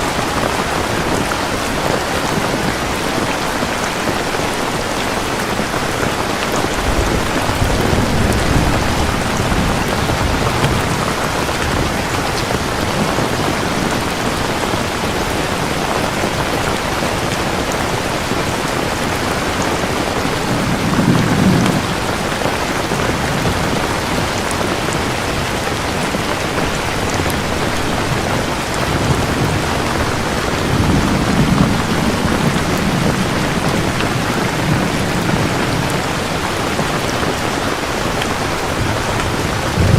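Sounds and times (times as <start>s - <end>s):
heavy rain falling: 0.0s - 39.9s
thunder rumbling: 5.6s - 39.9s.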